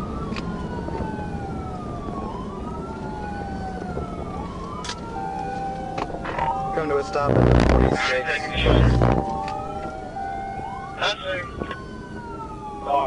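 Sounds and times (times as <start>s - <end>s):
car engine and road rumble: 0.0s - 13.0s
police siren wailing: 0.0s - 13.0s.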